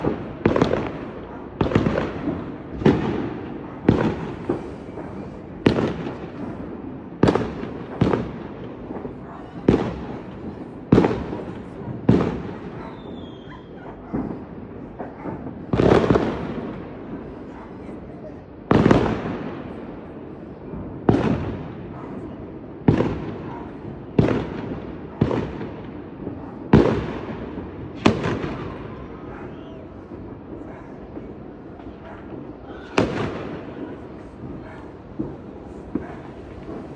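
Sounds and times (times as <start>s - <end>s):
fireworks bangs: 0.0s - 36.9s
fireworks rumble and crackle: 0.0s - 36.9s.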